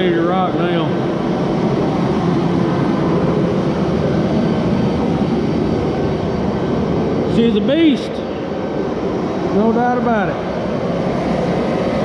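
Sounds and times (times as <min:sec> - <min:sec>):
loud machinery drone: 0:00.0 - 0:12.0.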